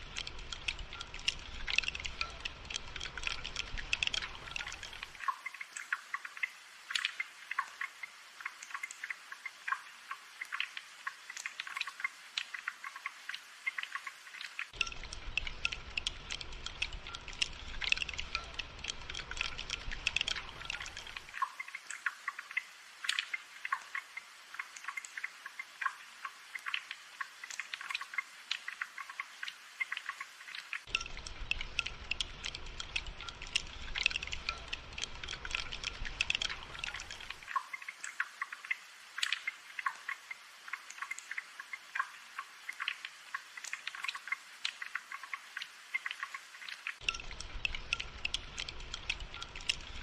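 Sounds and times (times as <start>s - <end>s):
rain patter: 0.0s - 50.0s.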